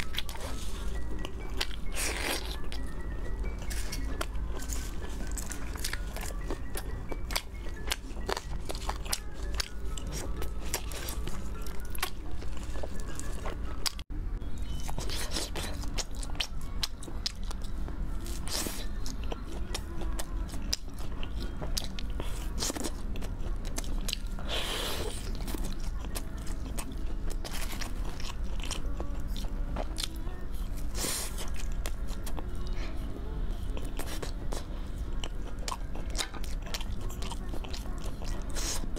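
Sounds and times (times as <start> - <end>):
chewing meat: 0.0 - 14.0, 14.6 - 38.9
background music: 0.0 - 38.9.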